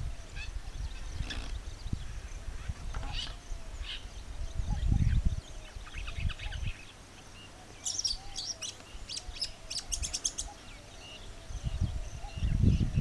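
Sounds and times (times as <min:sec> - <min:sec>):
songbird chirping: 0:00.0 - 0:13.0.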